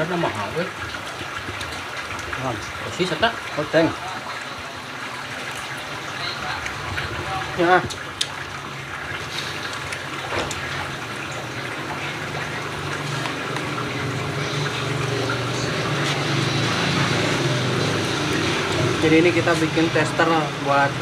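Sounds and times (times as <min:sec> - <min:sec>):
broth bubbling in a wok: 0:00.0 - 0:20.2.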